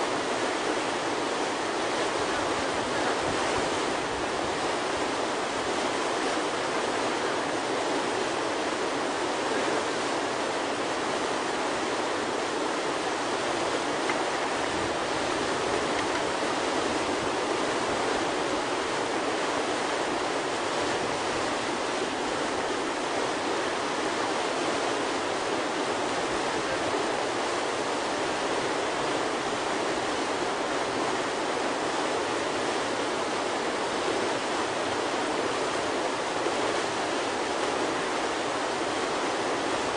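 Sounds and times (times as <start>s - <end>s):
whitewater rushing: 0.0s - 39.9s.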